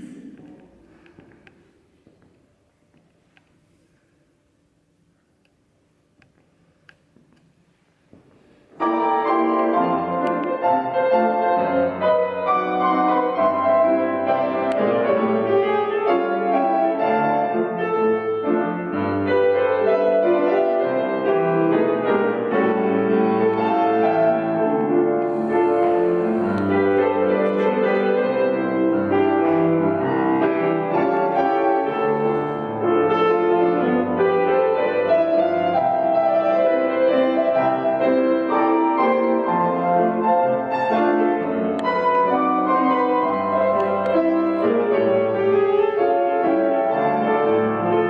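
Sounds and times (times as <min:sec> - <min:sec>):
grand piano playing: 0:08.6 - 0:48.0.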